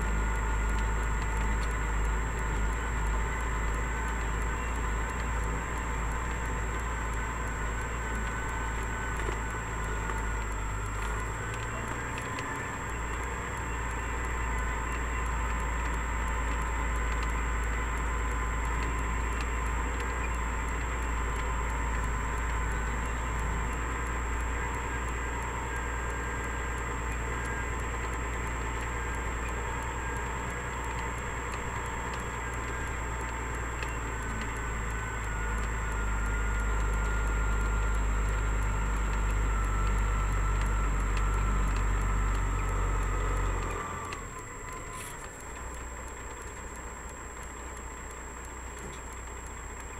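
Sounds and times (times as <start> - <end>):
diesel truck engine droning: 0.0 - 49.9.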